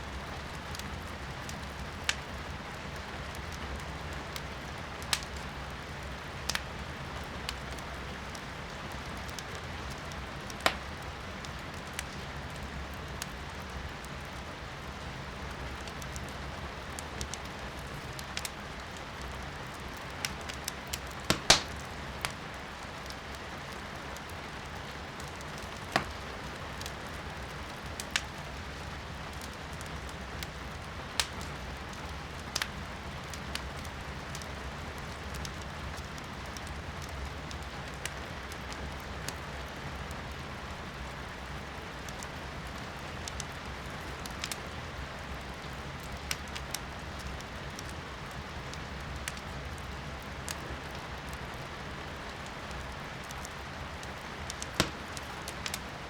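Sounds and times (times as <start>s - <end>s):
firewood crackling in a fireplace: 0.0s - 56.0s
rain hiss from indoors: 0.0s - 56.0s.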